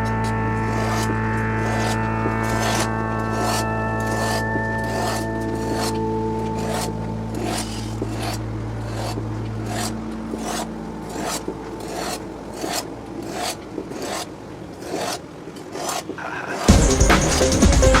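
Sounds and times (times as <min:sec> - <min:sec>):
steady hum: 0:00.0 - 0:14.7, 0:16.2 - 0:18.0.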